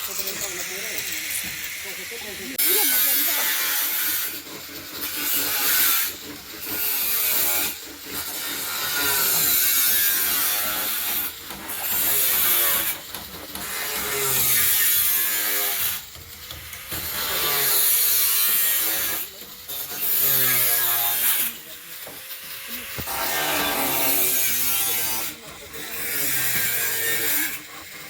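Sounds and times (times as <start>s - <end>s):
tool working wood: 0.0s - 28.0s.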